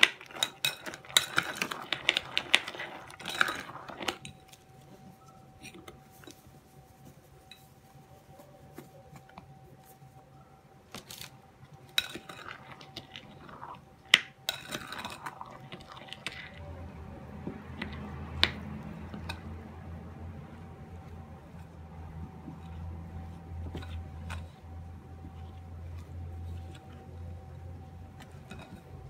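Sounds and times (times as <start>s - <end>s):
low steady hum: 0.0s - 29.0s
spoon scraping dough: 0.0s - 29.0s.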